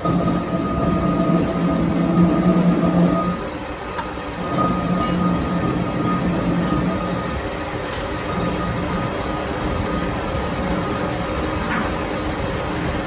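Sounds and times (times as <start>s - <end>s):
workshop machinery running: 0.0s - 13.0s.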